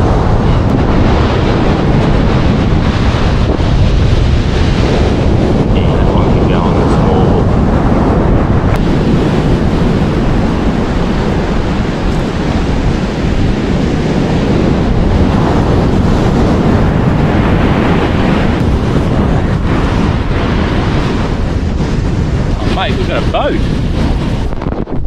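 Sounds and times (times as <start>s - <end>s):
surf washing on beach: 0.0s - 25.0s
wind buffeting microphone: 0.0s - 25.0s.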